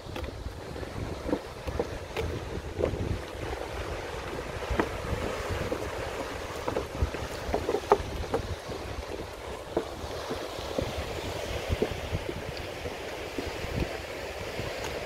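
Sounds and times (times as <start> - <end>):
surf breaking on rocks: 0.0 - 15.0
wind buffeting microphone: 0.0 - 15.0.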